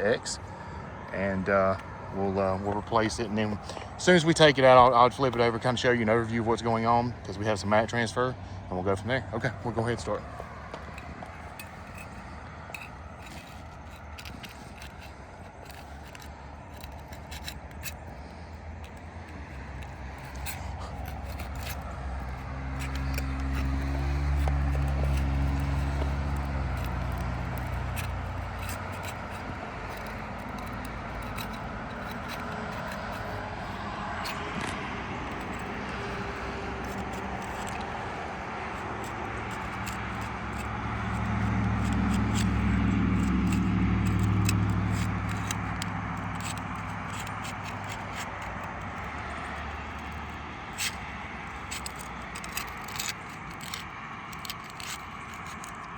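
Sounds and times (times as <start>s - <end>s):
motor vehicles passing: 0.0s - 55.9s
tools scraping a shingle: 0.0s - 55.9s.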